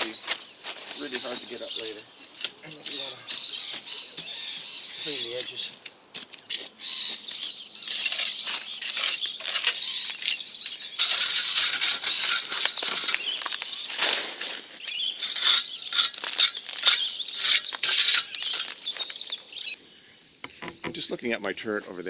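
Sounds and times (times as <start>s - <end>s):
tool scraping wet cement: 0.9s - 19.8s.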